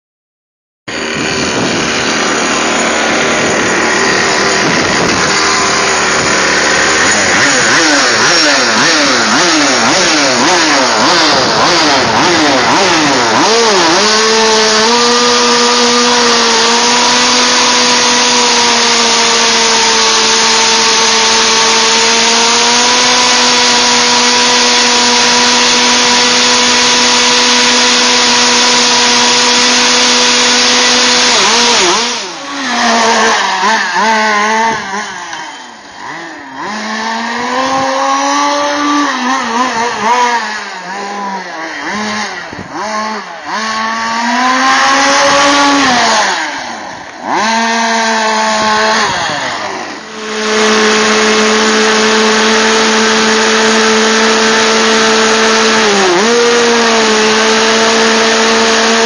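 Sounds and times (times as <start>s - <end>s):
small two-stroke engine revving: 0.9s - 59.0s.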